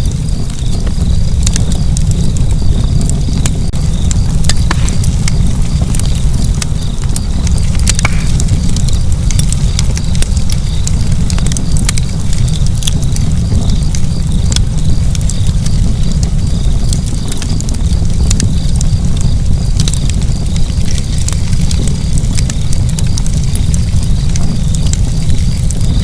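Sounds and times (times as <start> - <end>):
fire crackling and popping: 0.0 - 26.0
wood fire rumbling: 0.0 - 26.0.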